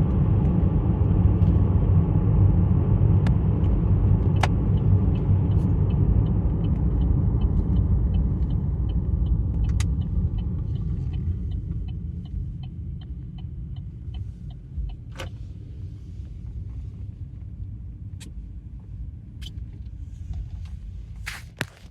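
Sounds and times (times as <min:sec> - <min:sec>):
vehicle engine rumble: 0:00.0 - 0:21.9.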